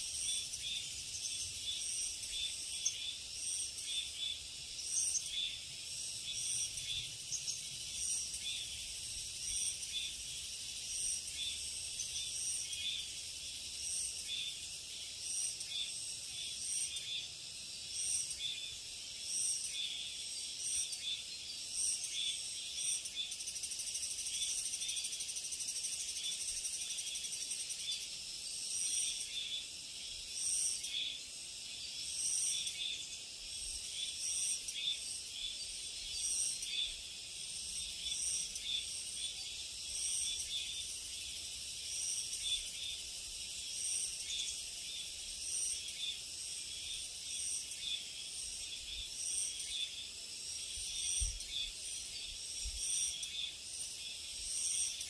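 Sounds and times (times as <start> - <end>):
insect buzzing: 0.0 - 55.0
insects chirring: 0.0 - 55.0.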